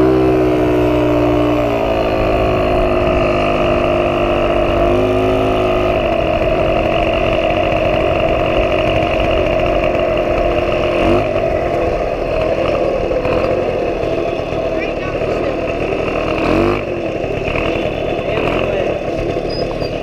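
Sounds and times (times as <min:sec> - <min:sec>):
moped two-stroke engine running: 0:00.0 - 0:20.0
riding noise rush: 0:00.0 - 0:20.0.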